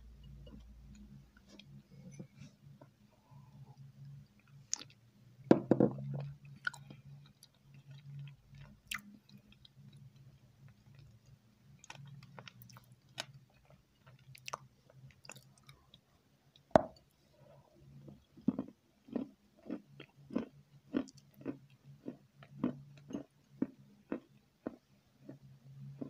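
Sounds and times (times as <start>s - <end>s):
chewing dessert: 0.2s - 5.0s, 5.9s - 16.7s, 17.6s - 26.0s.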